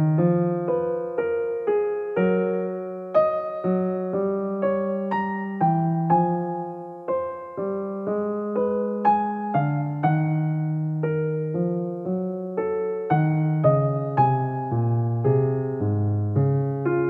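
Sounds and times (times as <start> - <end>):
piano-like keyboard single notes: 0.0 - 17.0.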